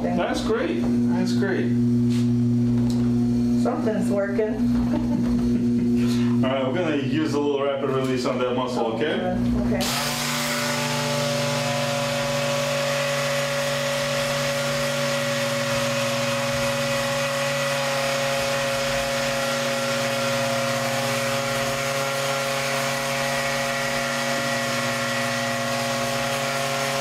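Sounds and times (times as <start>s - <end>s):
vibration device motor hum: 0.0s - 27.0s.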